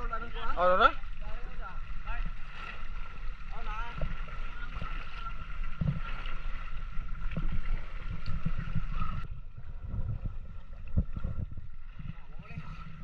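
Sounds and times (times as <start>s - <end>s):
water splashing against boat: 0.0s - 13.0s
wind rumbling on microphone: 0.0s - 13.0s.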